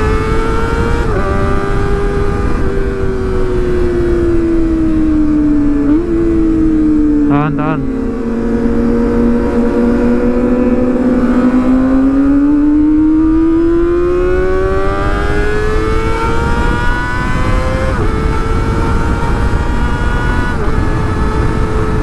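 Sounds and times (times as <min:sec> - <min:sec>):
motorcycle engine accelerating: 0:00.0 - 0:22.0
road and wind noise: 0:00.0 - 0:22.0.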